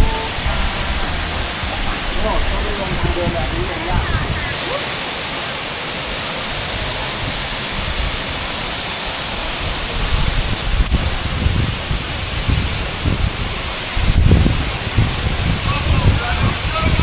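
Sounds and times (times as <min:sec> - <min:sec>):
low rumbling gusts: 0:00.0 - 0:17.0
waterfall rushing: 0:00.0 - 0:17.0.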